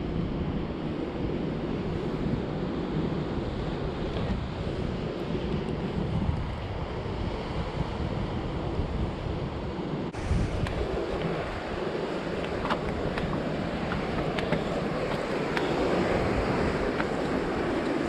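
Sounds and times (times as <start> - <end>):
sea waves washing on shore: 0.0 - 18.0
wind buffeting microphone: 0.0 - 18.0.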